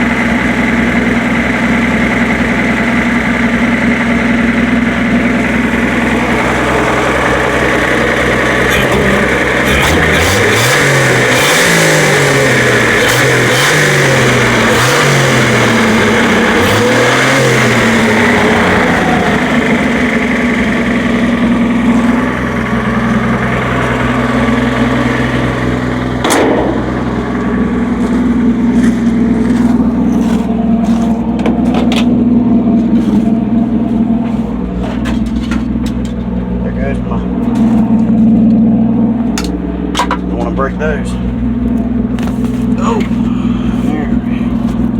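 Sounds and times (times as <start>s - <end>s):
car engine revving then idling: 0.0s - 44.9s.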